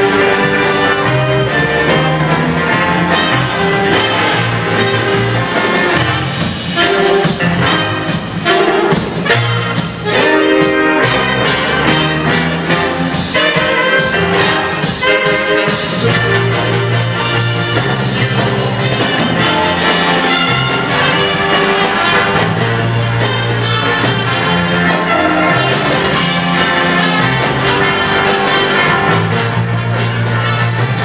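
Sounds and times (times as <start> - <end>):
jazz big band playing: 0.0 - 31.0.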